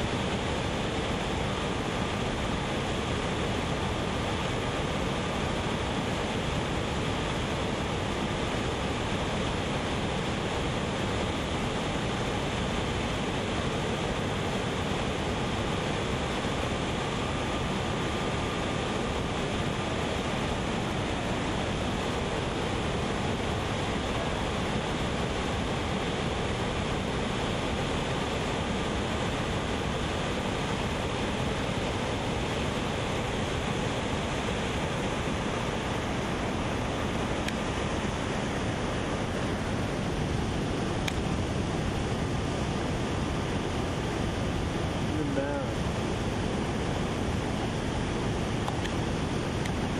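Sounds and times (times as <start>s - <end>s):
whitewater roaring over rapids: 0.0s - 49.9s.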